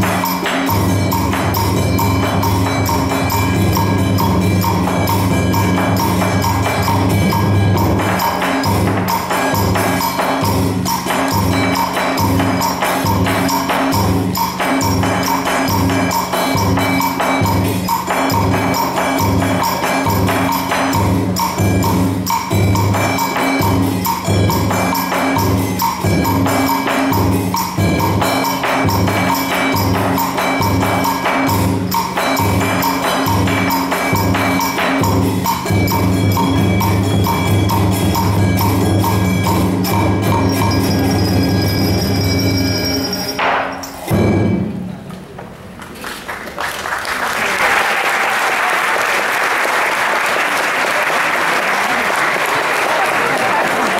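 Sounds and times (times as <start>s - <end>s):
drum ensemble playing: 0.0s - 45.8s.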